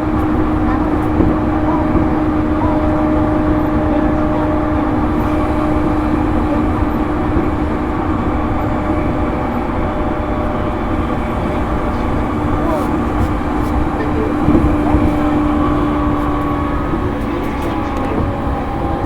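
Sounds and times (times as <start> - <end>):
train motor hum: 0.0 - 19.0
train wheels rumbling on rail: 0.0 - 19.0.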